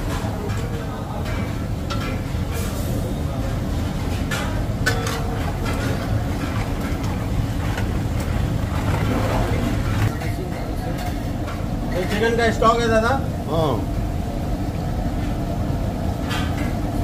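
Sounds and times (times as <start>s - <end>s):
low rumble of kitchen range: 0.0s - 17.0s.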